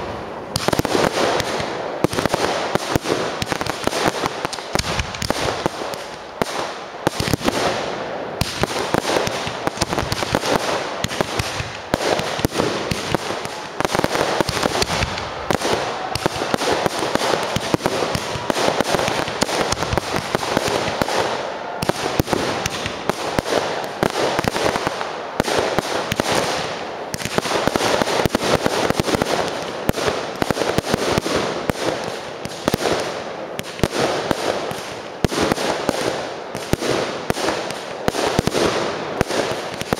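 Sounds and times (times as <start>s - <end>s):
fireworks bursting and banging: 0.0s - 39.9s.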